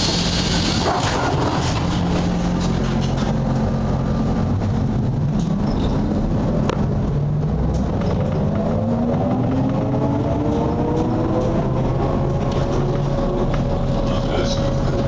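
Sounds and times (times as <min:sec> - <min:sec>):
road and body rumble: 0:00.0 - 0:15.0.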